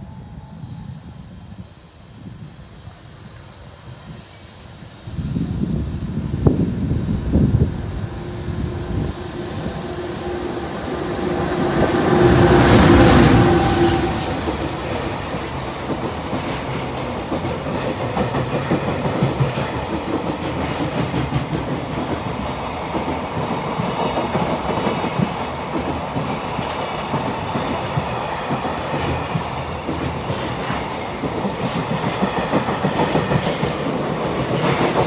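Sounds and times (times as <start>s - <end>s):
electric locomotive humming past: 0.0s - 35.0s.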